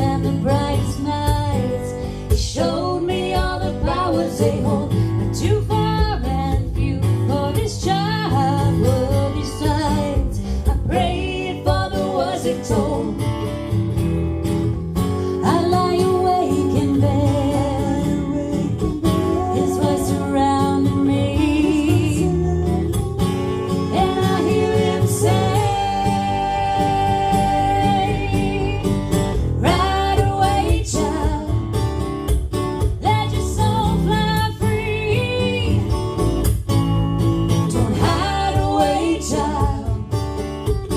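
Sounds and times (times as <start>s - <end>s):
guitar accompaniment: 0.0s - 40.9s
woman singing country song: 0.0s - 40.9s.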